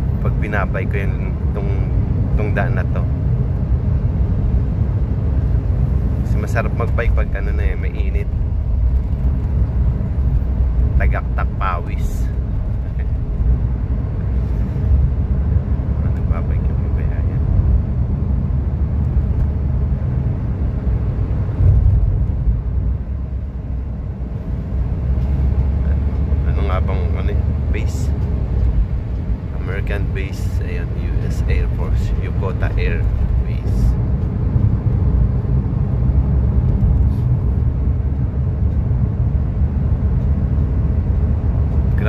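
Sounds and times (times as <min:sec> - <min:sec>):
car cabin road rumble: 0:00.0 - 0:42.0.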